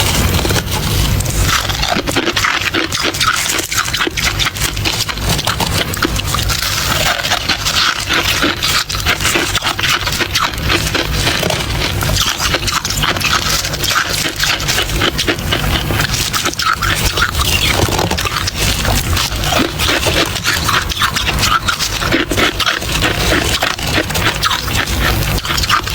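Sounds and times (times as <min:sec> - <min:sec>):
ice being chewed: 0:00.0 - 0:25.9.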